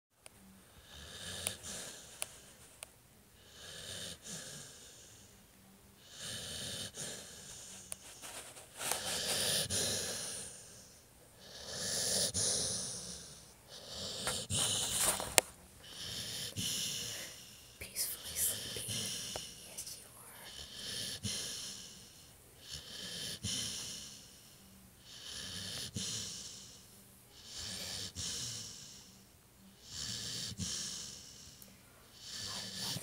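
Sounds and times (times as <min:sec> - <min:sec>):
dog snoring: 0:00.6 - 0:02.7, 0:03.4 - 0:05.4, 0:06.0 - 0:33.0.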